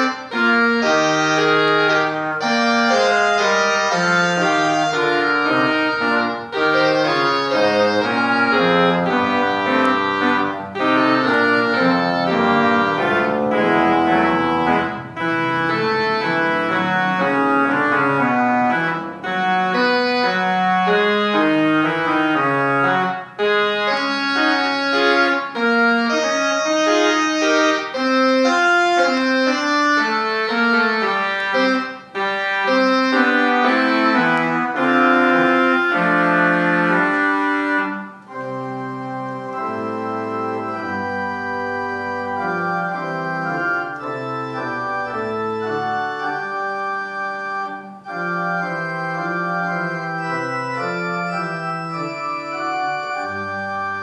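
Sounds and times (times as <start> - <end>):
organ playing held chords: 0.0 - 54.0.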